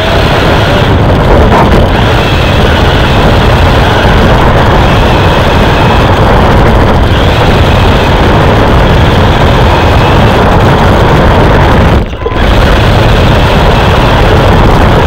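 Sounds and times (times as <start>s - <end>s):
race car engine at speed: 0.0s - 15.0s
road and wind noise: 0.0s - 15.0s.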